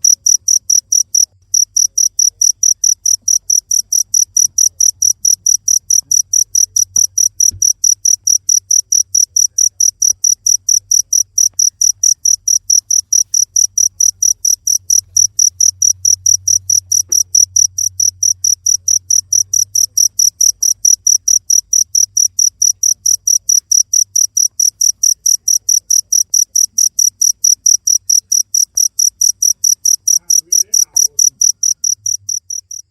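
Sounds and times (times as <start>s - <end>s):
cricket chirping: 0.0s - 32.9s.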